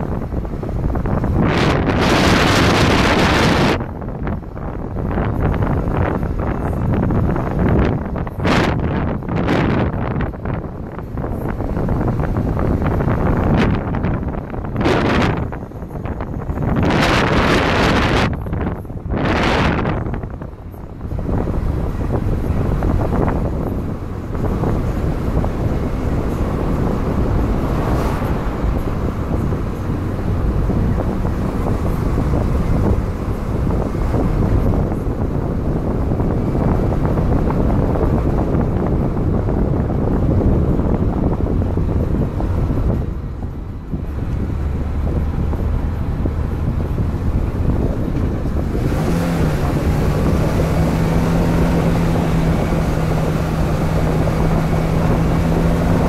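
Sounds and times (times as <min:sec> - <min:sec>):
car driving along road: 0:00.0 - 0:56.0
wind buffeting microphone: 0:00.0 - 0:56.0.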